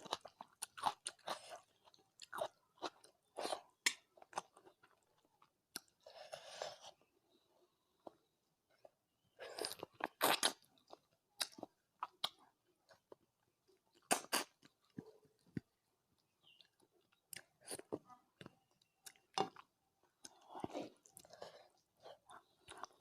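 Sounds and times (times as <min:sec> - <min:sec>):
person chewing food: 0:00.0 - 0:07.1, 0:07.9 - 0:23.0.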